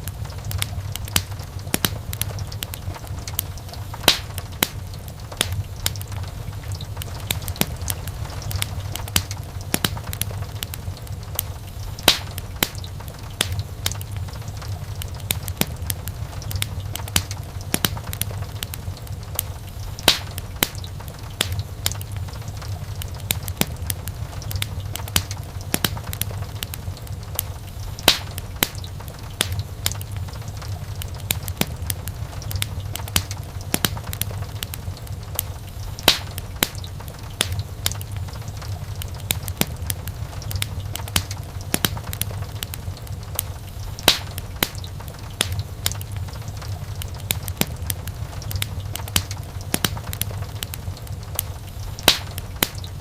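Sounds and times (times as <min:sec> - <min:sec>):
burning wood crackling and popping: 0:00.0 - 0:53.0
low rumble of flame: 0:00.0 - 0:53.0.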